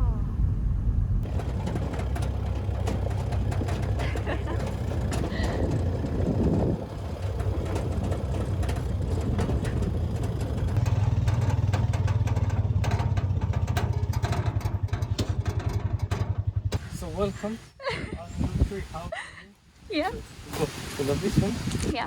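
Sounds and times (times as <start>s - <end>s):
car engine running at low revs: 0.0s - 19.2s.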